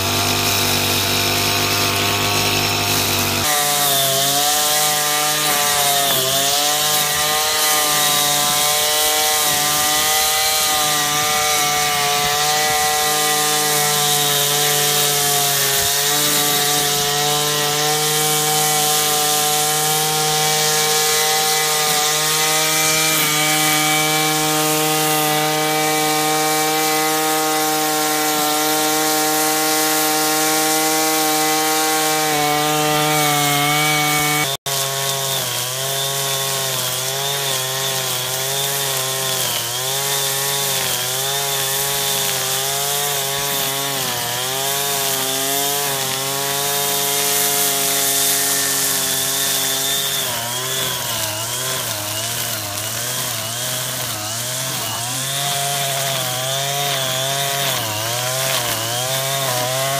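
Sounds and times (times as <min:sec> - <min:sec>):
brush cutter cutting grass: 0:00.0 - 0:59.9.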